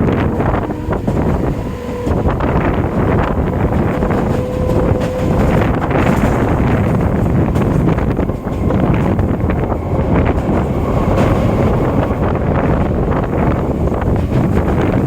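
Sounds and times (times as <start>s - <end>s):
train wheels rumbling on track: 0.0s - 15.0s
wind buffeting microphone: 0.0s - 15.0s.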